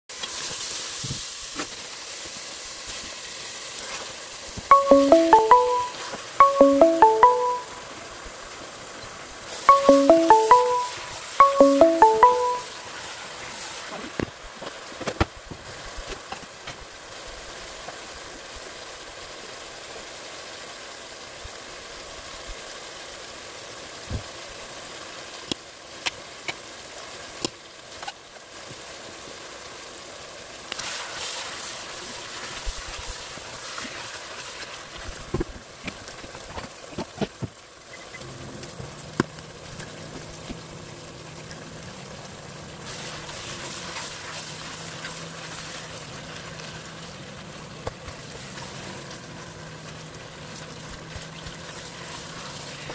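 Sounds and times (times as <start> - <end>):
chicken sizzling in a pot: 0.1 - 4.7, 12.7 - 52.9.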